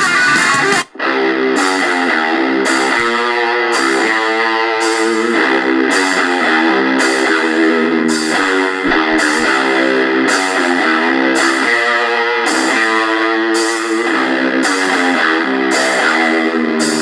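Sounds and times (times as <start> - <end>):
guitar music through small speaker: 0.0 - 17.0.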